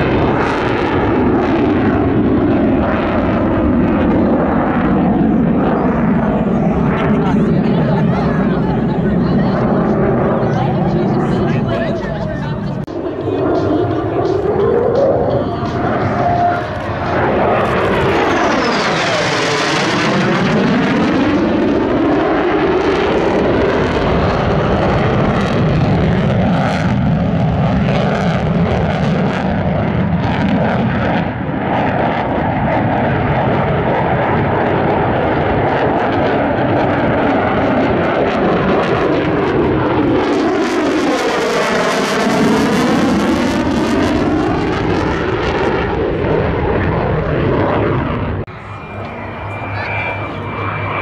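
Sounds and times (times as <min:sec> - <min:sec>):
jet engine roar: 0:00.0 - 0:51.0.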